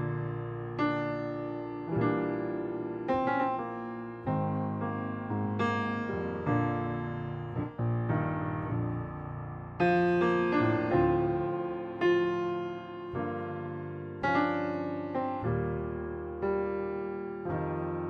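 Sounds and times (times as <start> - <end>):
solo piano chords: 0.0 - 18.0.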